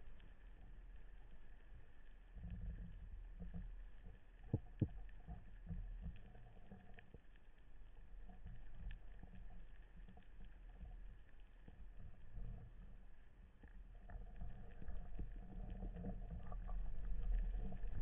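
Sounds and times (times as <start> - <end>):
faint ticks: 0.0 - 18.0
low underwater rumble: 0.0 - 18.0.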